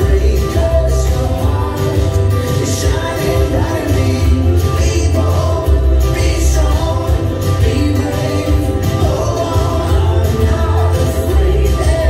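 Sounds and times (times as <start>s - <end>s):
band with steady bass line: 0.0s - 12.0s
voices singing together: 0.0s - 12.0s.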